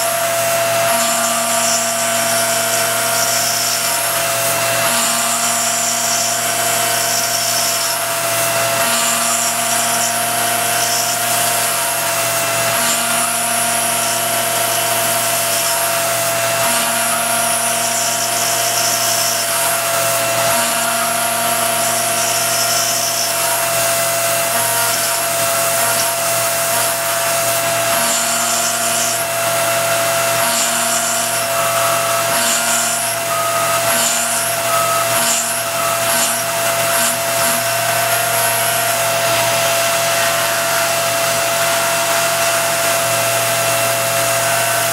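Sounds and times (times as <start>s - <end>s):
cutter hissing on metal: 0.0s - 44.9s
milling spindle whine: 0.0s - 44.9s.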